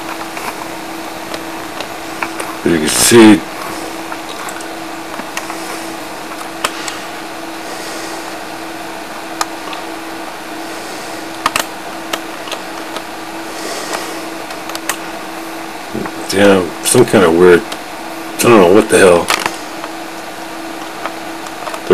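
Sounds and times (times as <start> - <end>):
low hum: 0.0 - 21.9
steady background hiss: 0.0 - 21.9.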